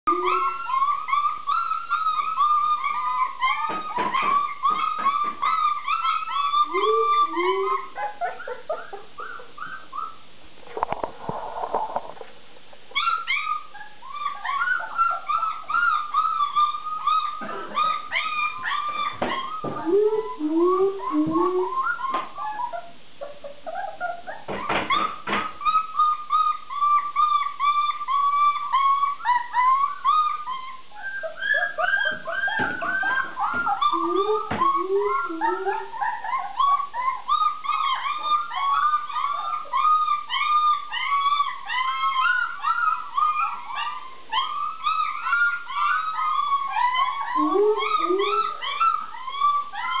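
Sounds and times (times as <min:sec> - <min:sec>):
puppies whining and yelping: 0:00.1 - 0:50.0.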